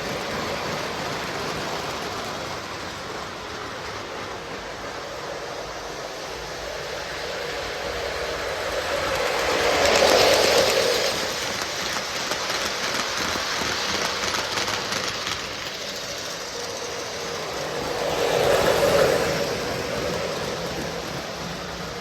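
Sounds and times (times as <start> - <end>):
model train rolling on rails: 0.0 - 22.0.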